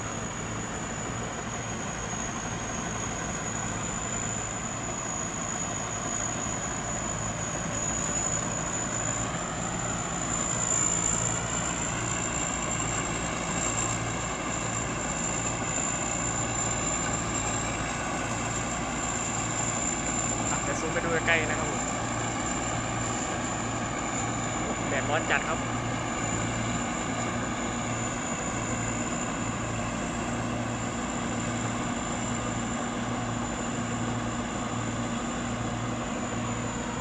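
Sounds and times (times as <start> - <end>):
combine harvester engine drone: 0.0 - 37.0
high machinery whine: 0.0 - 37.0.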